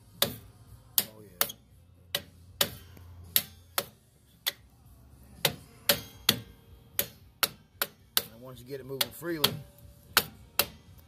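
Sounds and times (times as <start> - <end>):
hammer tapping on metal: 1.0 - 4.7, 5.4 - 10.8.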